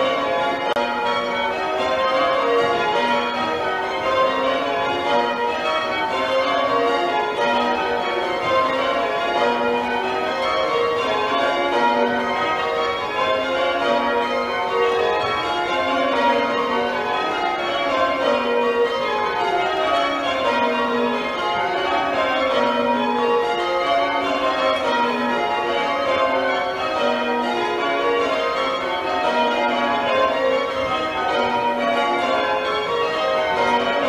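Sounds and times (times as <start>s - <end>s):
church bells ringing: 0.0s - 34.0s.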